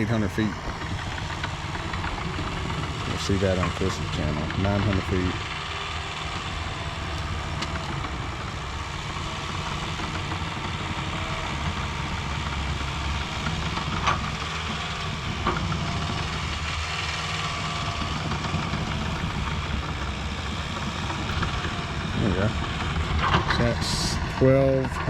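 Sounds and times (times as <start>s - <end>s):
heavy engine running: 0.0s - 25.0s.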